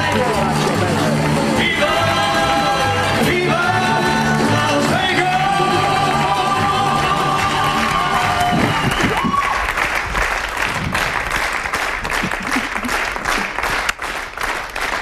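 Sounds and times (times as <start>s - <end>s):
studio audience applauding: 0.0s - 15.0s.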